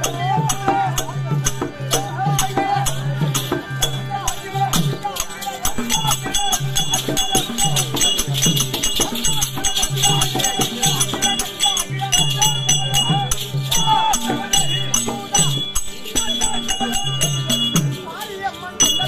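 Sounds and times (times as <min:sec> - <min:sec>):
fast dense percussion: 0:00.0 - 0:19.0.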